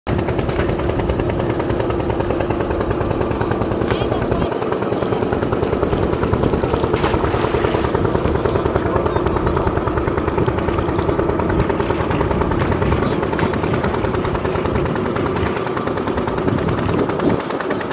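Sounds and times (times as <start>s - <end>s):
boat engine knocking: 0.1s - 17.9s.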